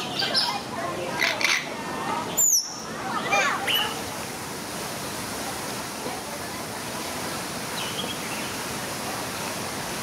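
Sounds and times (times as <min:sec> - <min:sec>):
running water in a pond: 0:00.0 - 0:10.0.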